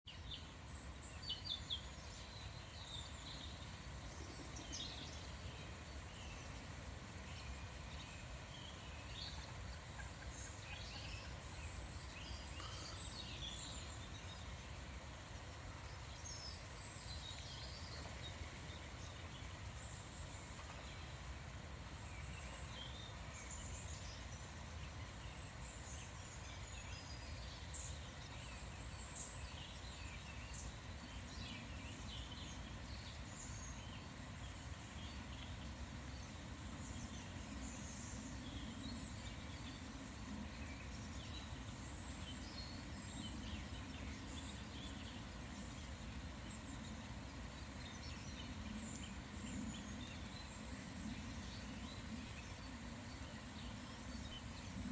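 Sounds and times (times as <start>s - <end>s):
small birds chirping and trilling: 0.1s - 54.9s.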